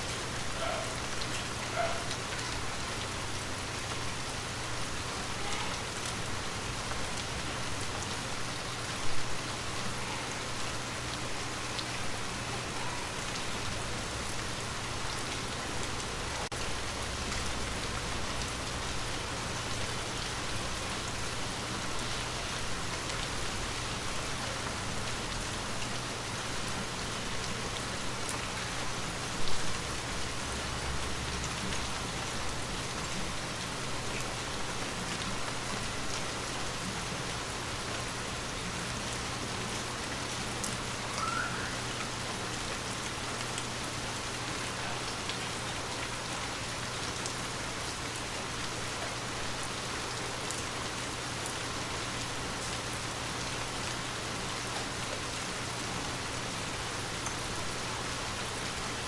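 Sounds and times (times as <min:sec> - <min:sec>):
rain on window glass: 0:00.0 - 0:59.0.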